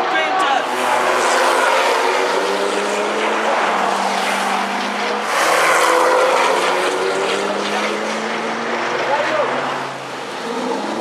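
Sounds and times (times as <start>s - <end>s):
car engines running at speed: 0.0s - 11.0s
sports car accelerating past: 0.6s - 11.0s.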